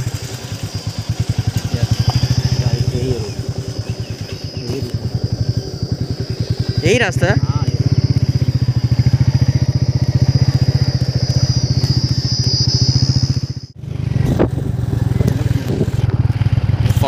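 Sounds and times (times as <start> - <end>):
high-pitched whine: 0.0 - 17.0
motorcycle engine running: 0.0 - 17.0.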